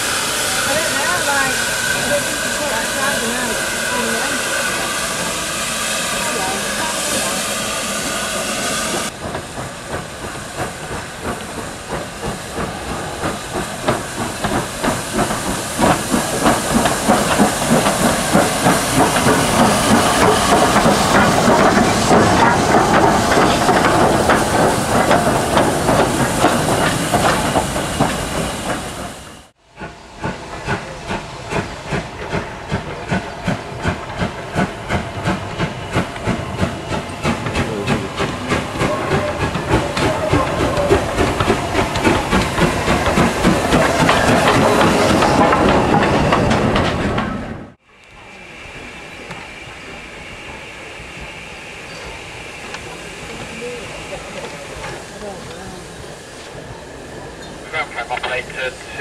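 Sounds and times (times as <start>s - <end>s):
loud hissing steam: 0.0s - 59.0s
steam locomotive chuffing: 0.0s - 59.0s
steam locomotive exhaust beats: 0.0s - 59.0s.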